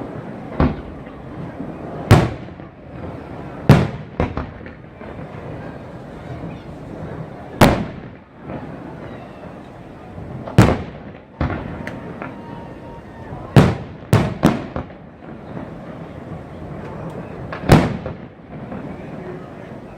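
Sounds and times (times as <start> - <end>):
fireworks bangs: 0.0 - 19.9.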